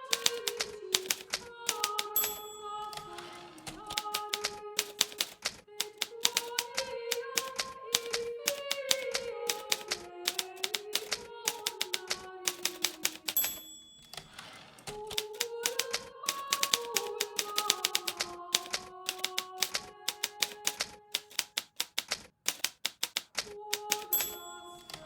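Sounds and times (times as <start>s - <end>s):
typewriter keys striking: 0.0s - 25.0s.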